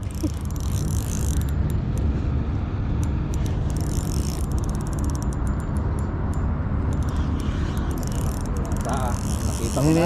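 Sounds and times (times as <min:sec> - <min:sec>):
fishing reel drag clicking: 0:00.0 - 0:02.0, 0:03.0 - 0:10.0.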